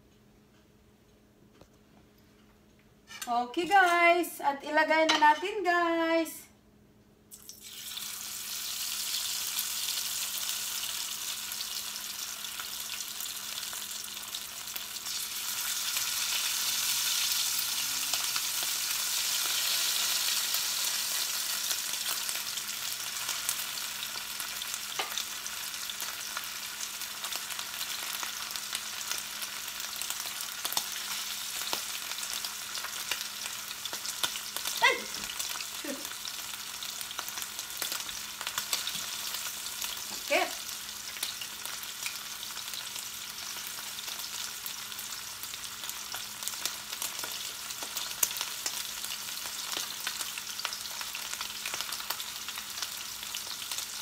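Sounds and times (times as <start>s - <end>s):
meat sizzling in oil: 7.3s - 54.0s.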